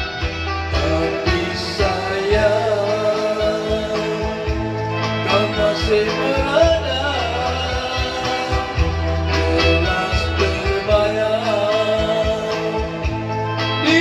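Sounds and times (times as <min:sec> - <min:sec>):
band with bass and guitar: 0:00.0 - 0:14.0
man singing: 0:00.7 - 0:14.0.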